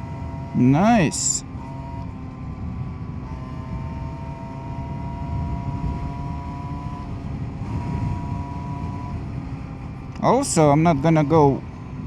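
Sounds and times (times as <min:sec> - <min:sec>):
scooter engine with high whine: 0:00.0 - 0:12.0.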